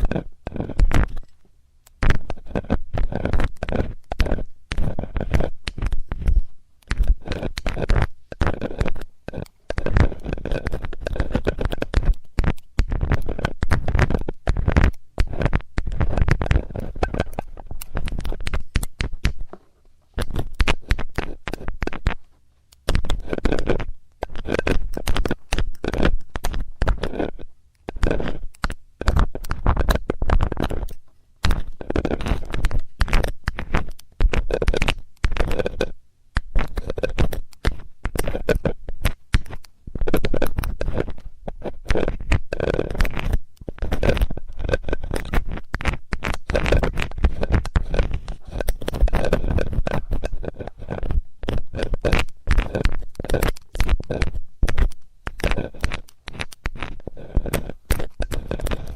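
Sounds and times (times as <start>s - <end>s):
metal tool scraping close to microphone: 0.0s - 1.4s, 2.0s - 22.2s, 22.8s - 58.9s.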